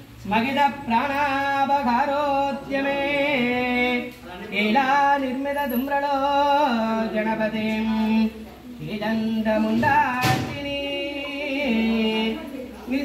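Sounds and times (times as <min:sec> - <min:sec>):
person singing devotional song: 0:00.2 - 0:13.0.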